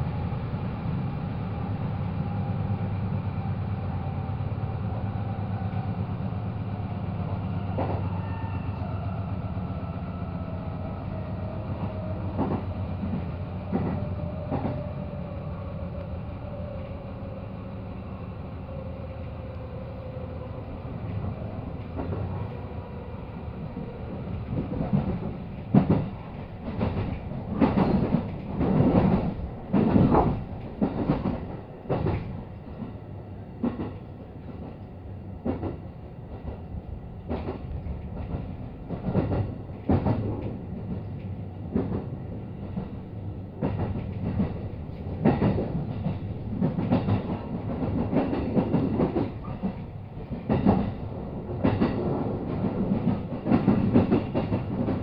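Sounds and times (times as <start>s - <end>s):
train interior rumble: 0.0s - 55.0s.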